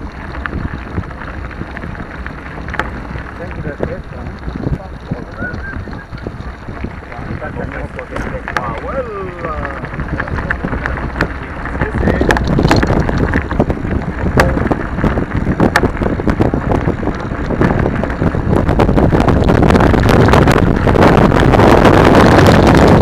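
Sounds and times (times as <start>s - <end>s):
bike knocks and rattles: 0.0s - 5.3s, 6.1s - 23.0s
tyres rolling on dirt: 0.0s - 23.0s
wind buffeting microphone: 0.0s - 23.0s.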